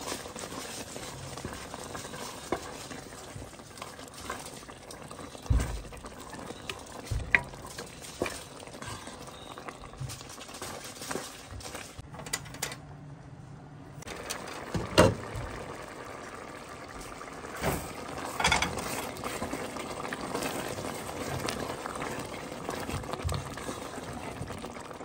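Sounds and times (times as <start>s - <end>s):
soup bubbling at a boil: 0.0s - 12.0s, 14.0s - 25.0s.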